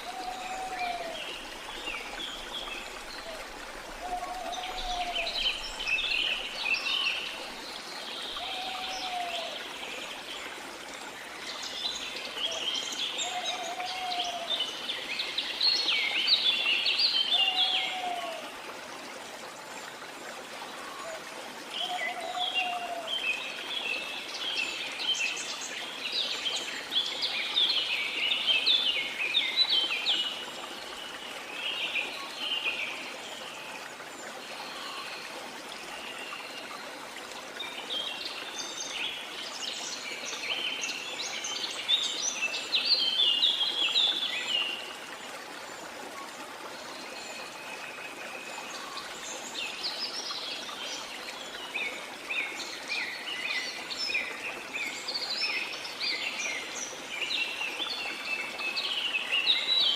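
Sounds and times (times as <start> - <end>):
songbirds chirping and twittering: 0.0 - 18.7, 19.3 - 59.9.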